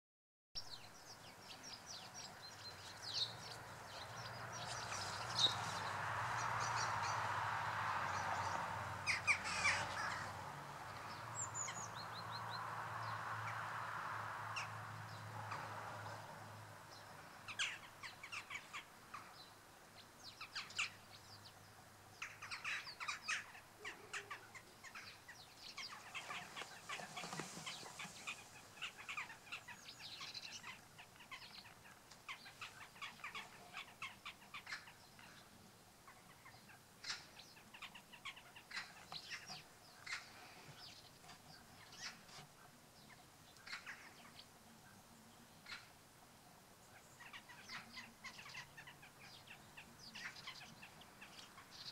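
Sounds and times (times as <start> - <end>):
birds calling: 0.6 - 13.8, 14.5 - 46.0, 46.8 - 51.9.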